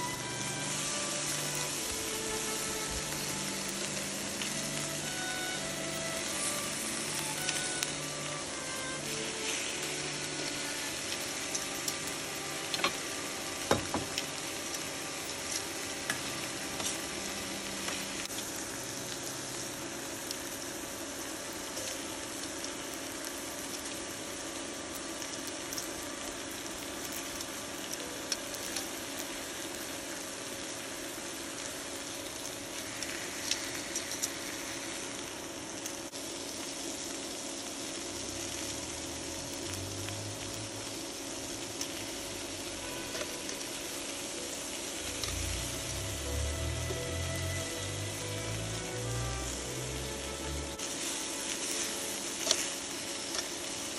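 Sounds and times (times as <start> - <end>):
meat sizzling on a grill pan: 0.0 - 53.9.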